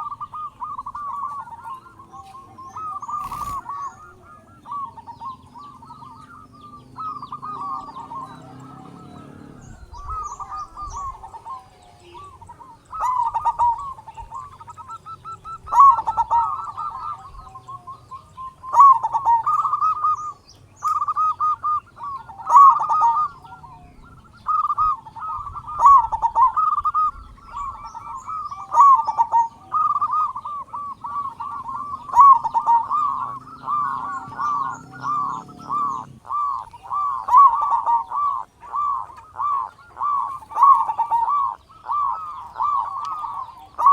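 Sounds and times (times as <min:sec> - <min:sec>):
dove cooing: 0:00.0 - 0:43.9.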